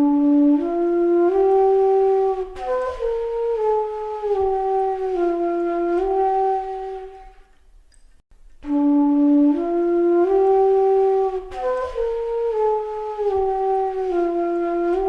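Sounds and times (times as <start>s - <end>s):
slow flute-like melody: 0.0s - 7.6s, 8.6s - 15.0s.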